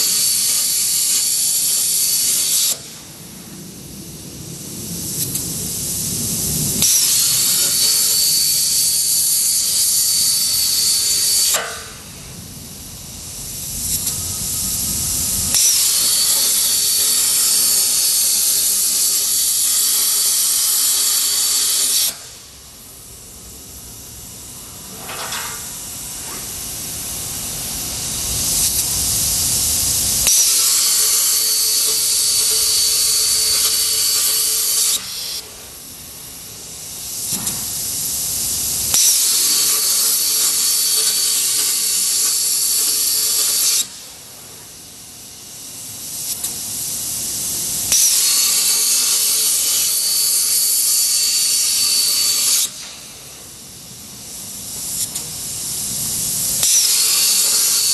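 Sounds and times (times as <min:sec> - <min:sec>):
plasma cutter hissing: 0:00.0 - 0:57.9.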